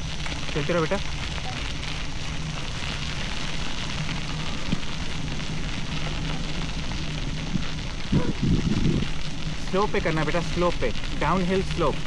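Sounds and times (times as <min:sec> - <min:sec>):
bicycle tyres crunching on gravel: 0:00.0 - 0:12.0
steady low rumble: 0:00.0 - 0:12.0.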